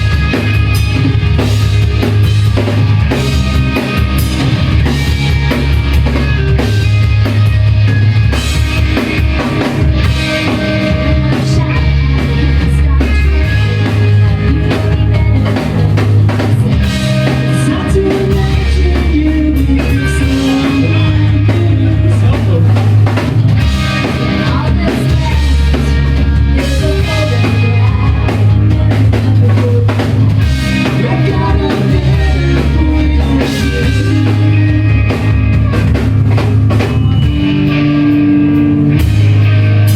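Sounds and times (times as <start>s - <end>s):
drum kit: 0.0s - 39.9s
guitar: 0.0s - 39.9s
heavy bass line: 0.0s - 39.9s.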